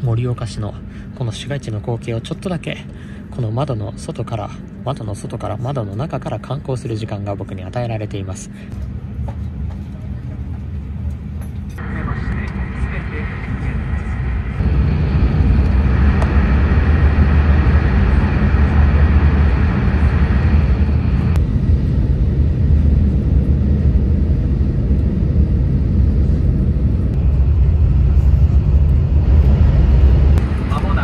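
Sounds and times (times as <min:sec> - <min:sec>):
train low rumble: 0:00.0 - 0:31.0.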